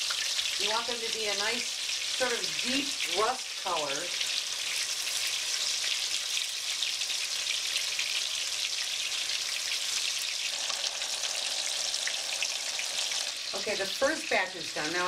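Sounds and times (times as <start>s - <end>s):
oil crackling sizzle: 0.0s - 15.0s.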